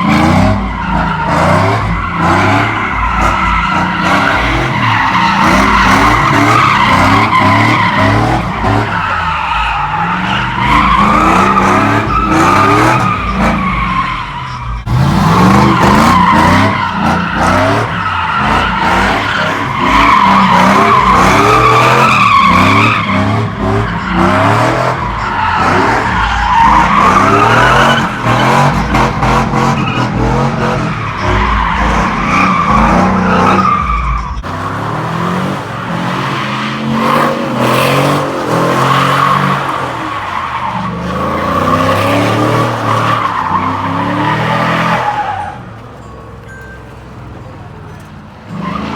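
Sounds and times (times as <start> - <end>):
truck tires squealing: 0.0 - 46.1, 47.8 - 48.9.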